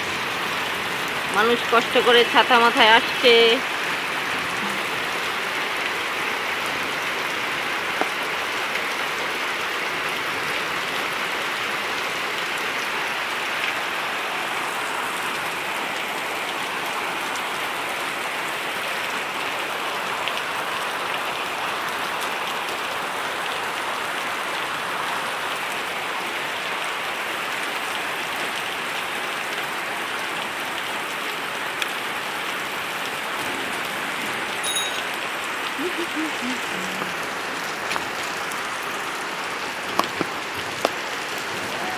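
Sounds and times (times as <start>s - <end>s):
heavy rain on hard surfaces: 0.0s - 41.9s.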